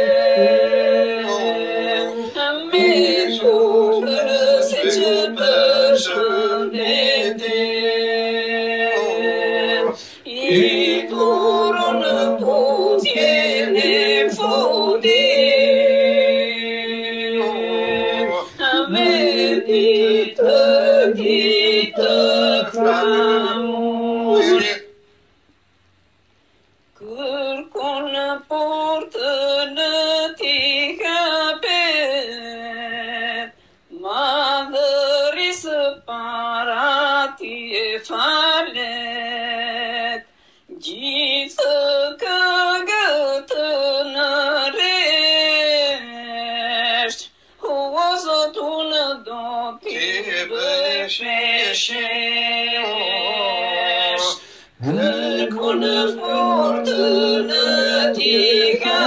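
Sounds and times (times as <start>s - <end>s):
person singing unaccompanied: 0.0s - 25.0s, 27.0s - 59.0s.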